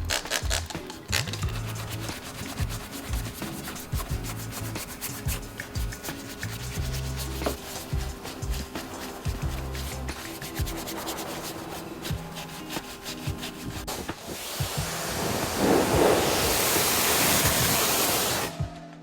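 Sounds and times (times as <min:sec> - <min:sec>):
stiff brush scrubbing: 0:00.0 - 0:18.5
compressed air hissing: 0:00.9 - 0:18.6.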